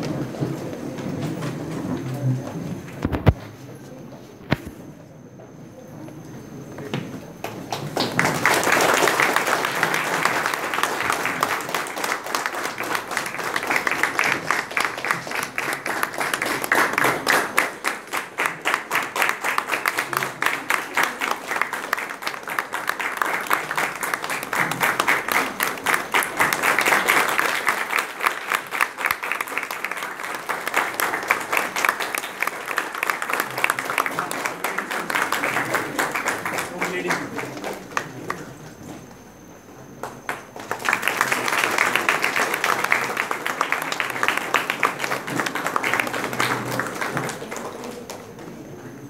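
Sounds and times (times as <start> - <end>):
audience applauding: 7.4 - 49.0.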